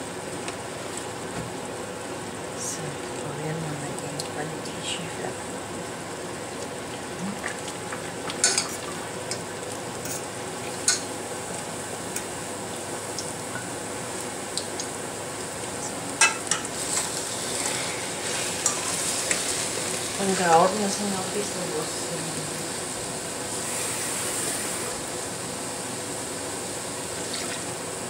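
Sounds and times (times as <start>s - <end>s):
pastries sizzling in hot fat: 0.0s - 28.0s.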